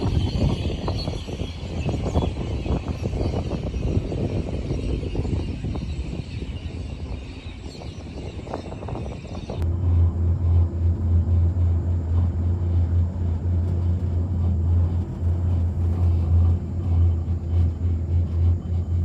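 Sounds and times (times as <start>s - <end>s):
moving vehicle rumble: 0.0s - 19.0s.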